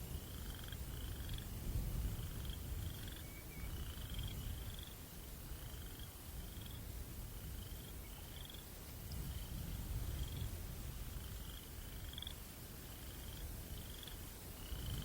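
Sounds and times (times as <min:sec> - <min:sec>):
crickets chirping: 0:00.0 - 0:15.0
low wind rumble: 0:00.0 - 0:15.0.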